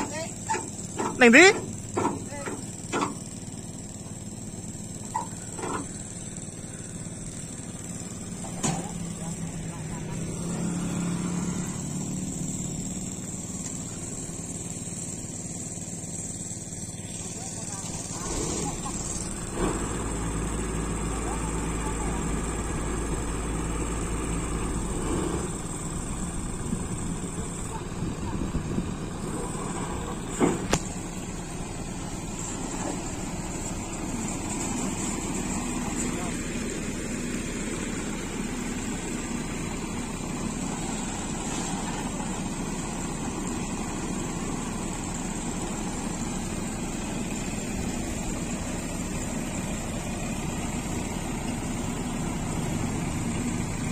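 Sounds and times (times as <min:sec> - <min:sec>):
combine harvester engine running: 0:00.0 - 0:53.9.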